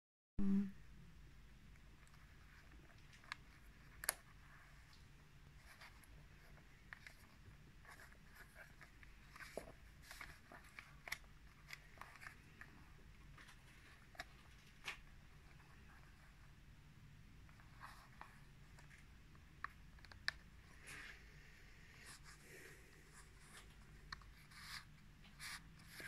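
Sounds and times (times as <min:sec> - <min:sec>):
soft rustles and taps of cards: 0:01.8 - 0:16.6, 0:17.3 - 0:26.0.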